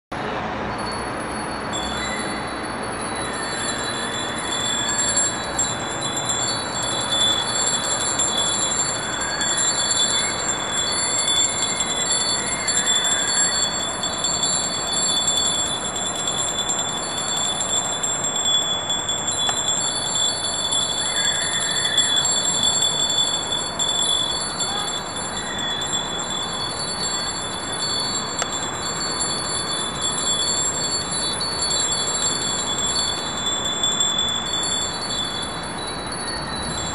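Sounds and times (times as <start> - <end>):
bell ringing: 0.7 - 36.9.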